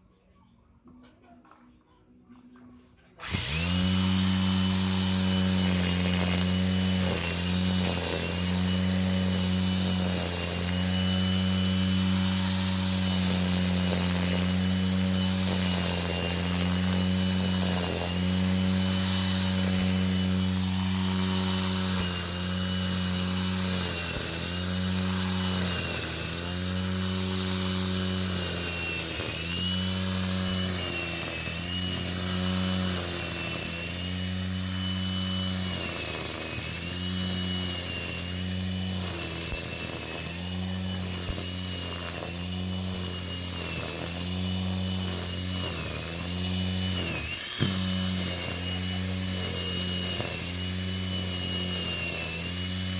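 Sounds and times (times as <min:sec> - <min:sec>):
angle grinder motor whining: 0:03.2 - 0:52.9.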